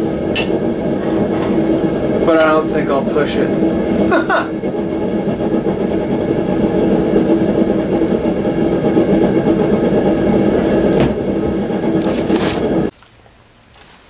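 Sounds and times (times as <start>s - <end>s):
forge humming: 0.0s - 12.9s.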